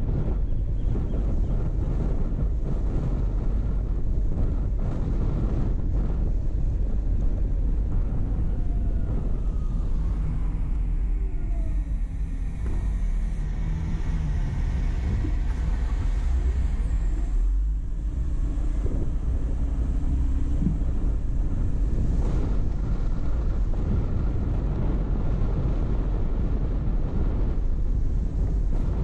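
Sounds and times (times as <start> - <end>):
car driving rumble: 0.0 - 29.0.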